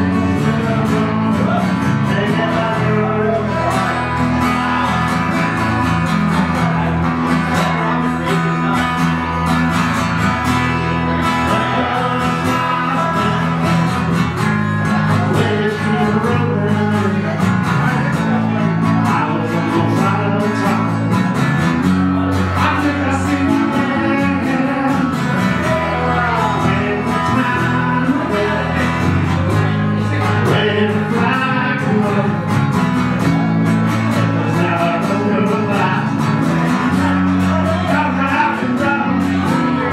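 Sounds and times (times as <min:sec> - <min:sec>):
two guitars strummed and picked: 0:00.0 - 0:39.9.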